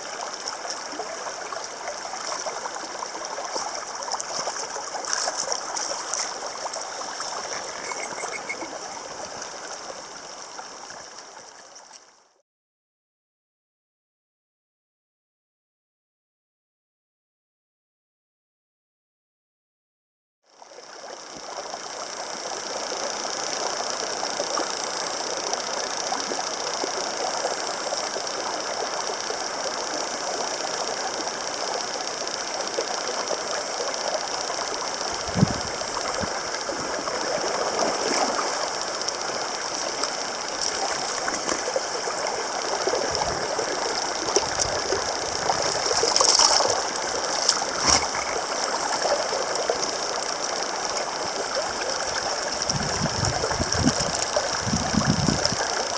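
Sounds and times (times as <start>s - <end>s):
stream running over rocks: 0.0s - 12.3s, 20.7s - 55.9s.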